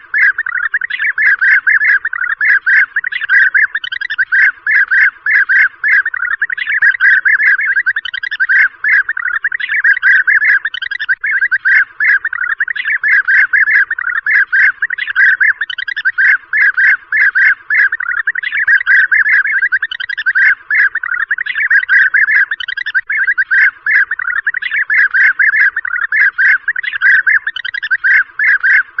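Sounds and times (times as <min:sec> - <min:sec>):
flock of birds calling: 0:00.0 - 0:29.0.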